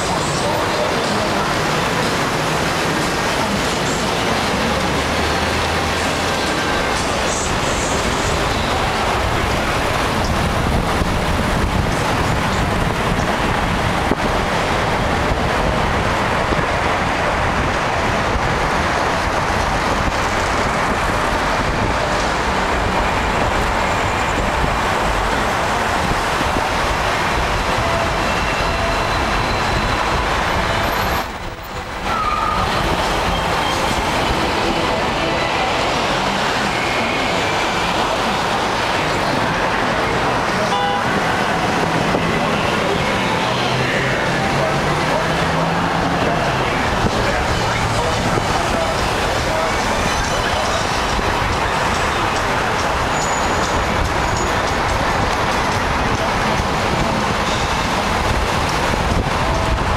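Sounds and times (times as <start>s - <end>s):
vehicle road noise: 0.0s - 59.9s.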